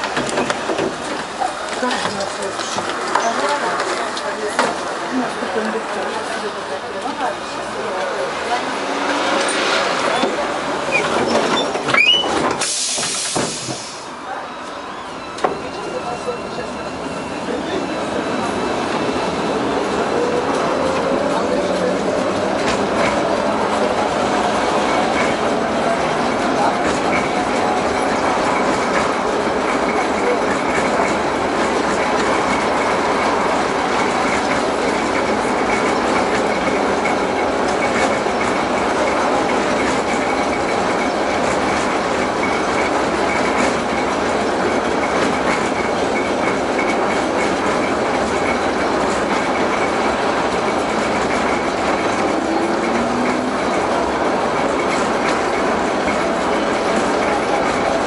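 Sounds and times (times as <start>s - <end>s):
tram wheels clattering on rails: 0.0s - 14.1s, 15.3s - 58.0s.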